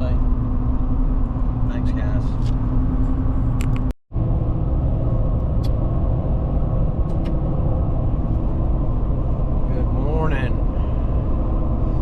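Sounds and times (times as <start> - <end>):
truck road and engine rumble: 0.0 - 12.0.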